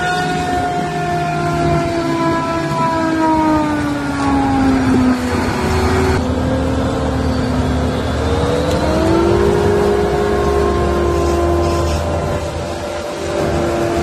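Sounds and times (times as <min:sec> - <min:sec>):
forage harvester whining: 0:00.0 - 0:14.0.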